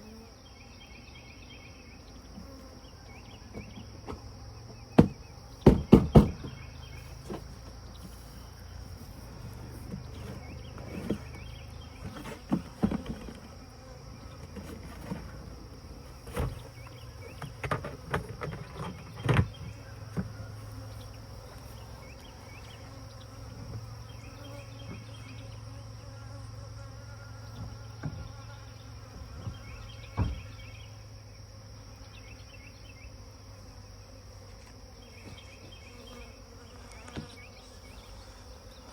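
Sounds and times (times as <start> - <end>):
honeybee swarm buzzing: 0.0 - 38.9.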